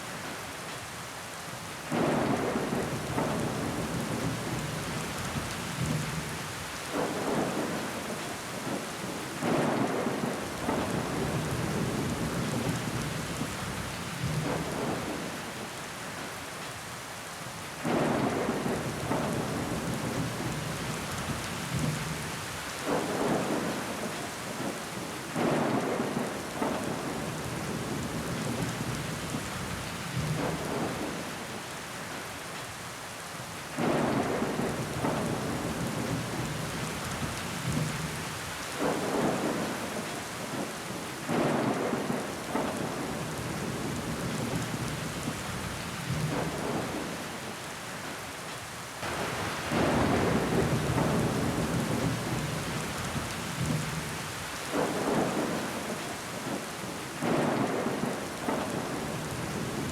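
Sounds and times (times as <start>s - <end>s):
rain on window glass: 0.1s - 16.8s, 17.7s - 59.9s.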